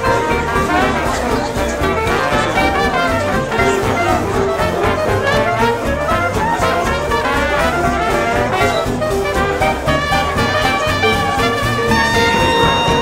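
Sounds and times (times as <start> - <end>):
jazzy music with brass: 0.0 - 13.0.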